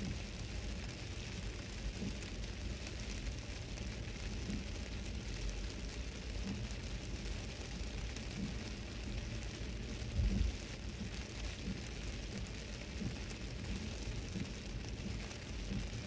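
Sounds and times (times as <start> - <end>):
heavy rain drumming on car: 0.0 - 16.0.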